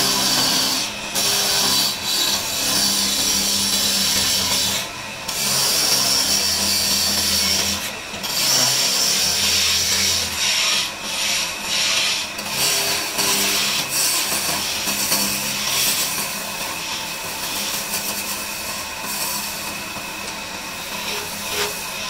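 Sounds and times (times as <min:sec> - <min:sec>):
chisel scraping wood on lathe: 0:00.0 - 0:19.7, 0:20.8 - 0:22.0.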